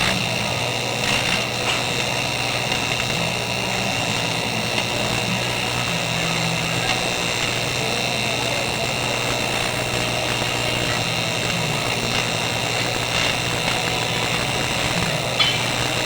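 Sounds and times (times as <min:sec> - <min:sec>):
welding arc buzzing: 0:00.0 - 0:16.0.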